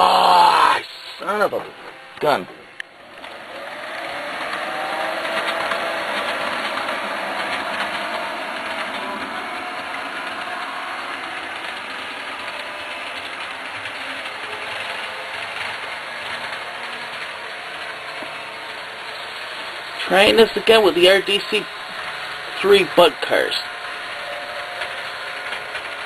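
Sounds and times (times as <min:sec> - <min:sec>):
model train motor whine: 0:00.0 - 0:26.0.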